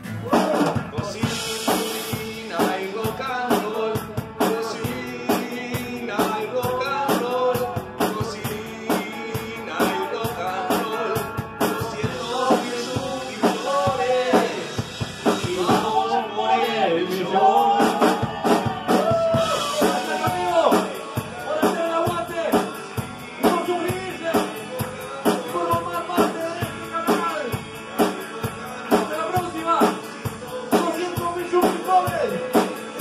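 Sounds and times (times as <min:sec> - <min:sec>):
drum kit beat: 0:00.0 - 0:33.0
electric and acoustic guitars: 0:00.0 - 0:33.0
man singing: 0:00.1 - 0:33.0.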